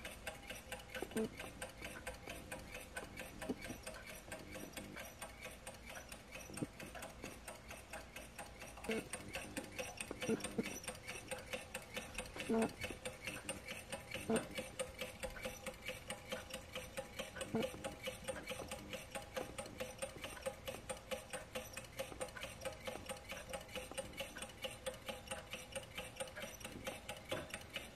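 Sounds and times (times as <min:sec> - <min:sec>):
stirling engine mechanical ticking: 0:00.0 - 0:27.9.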